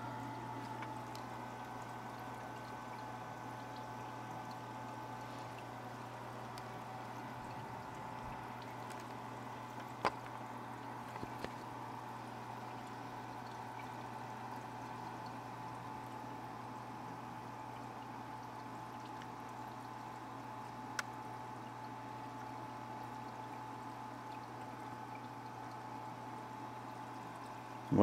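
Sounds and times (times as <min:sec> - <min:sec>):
aquarium water trickling: 0:00.0 - 0:28.0
low pump hum: 0:00.0 - 0:28.0.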